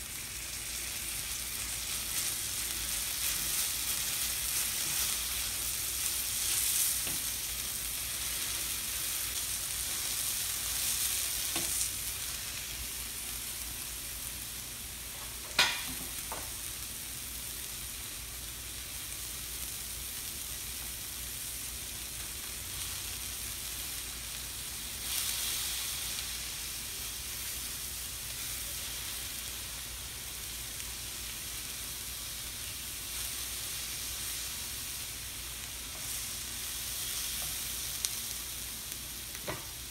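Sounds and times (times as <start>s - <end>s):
steak sizzling on grill: 0.0s - 39.9s.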